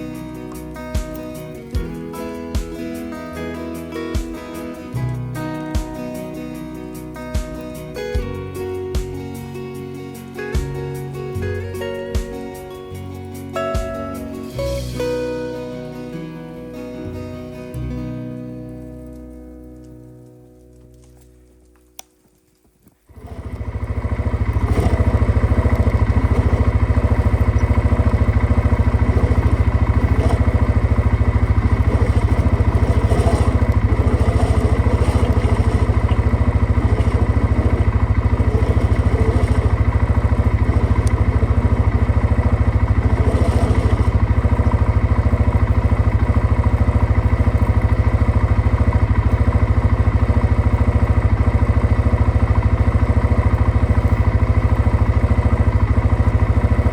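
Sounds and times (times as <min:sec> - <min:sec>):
engine running steadily: 0:00.0 - 0:22.1, 0:22.8 - 0:56.9.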